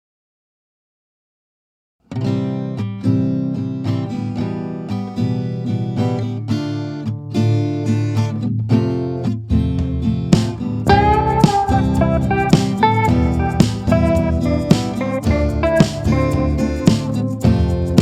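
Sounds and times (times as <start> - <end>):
acoustic guitar music: 2.0 - 18.0.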